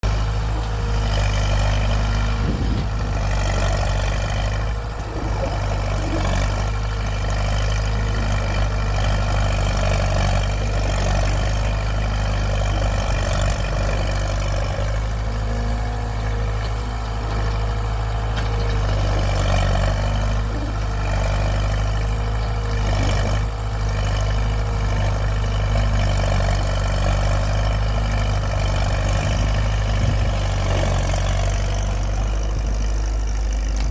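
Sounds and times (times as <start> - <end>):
heavy machinery engine droning: 0.0 - 33.9.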